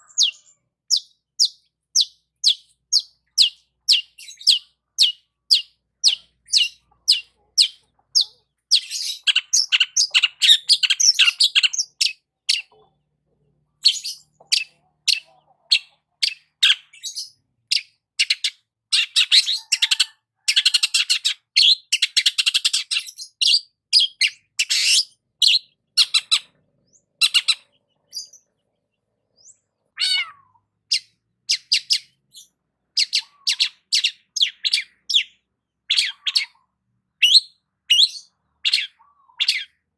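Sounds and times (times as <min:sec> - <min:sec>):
bird rapid chattering: 0:00.0 - 0:13.0, 0:13.8 - 0:28.5, 0:30.9 - 0:36.6, 0:37.2 - 0:39.8.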